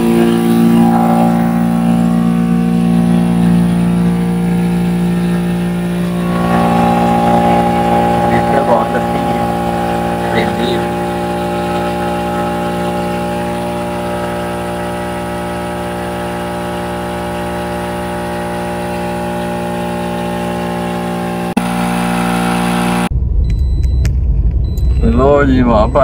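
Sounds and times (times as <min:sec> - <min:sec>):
low rumble: 0:00.0 - 0:19.7, 0:23.0 - 0:26.0
air compressor humming: 0:00.0 - 0:23.1.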